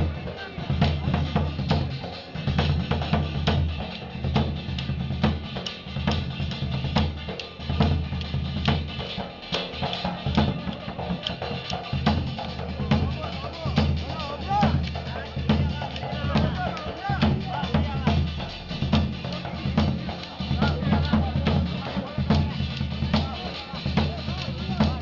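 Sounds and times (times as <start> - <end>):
folk drums playing: 0.0 - 25.0.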